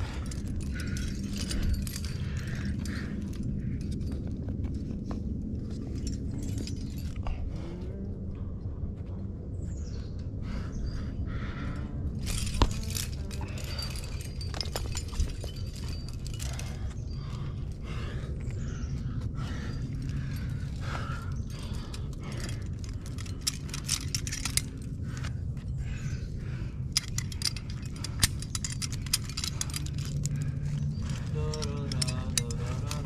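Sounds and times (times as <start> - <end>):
metal climbing gear clinking: 0.0 - 8.5, 10.6 - 33.0
steady low rumble: 0.0 - 33.0.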